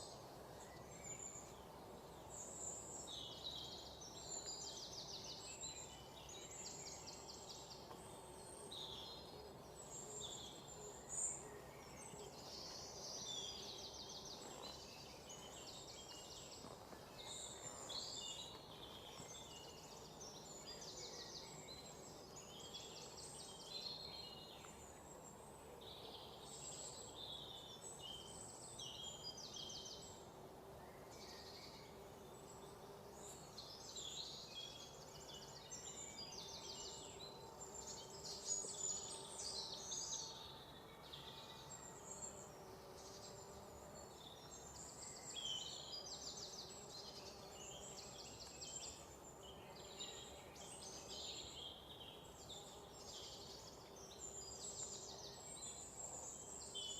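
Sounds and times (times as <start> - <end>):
faint background hiss: 0.0 - 56.9
small birds chirping and trilling: 0.0 - 56.9.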